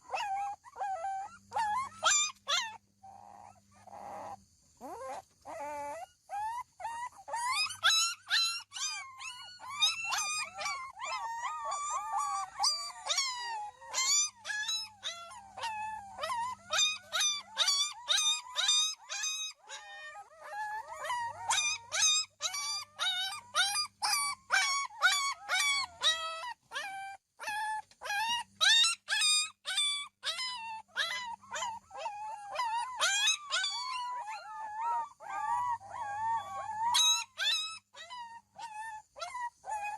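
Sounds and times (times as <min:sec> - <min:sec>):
dog yelping and whining: 0:00.0 - 0:39.9.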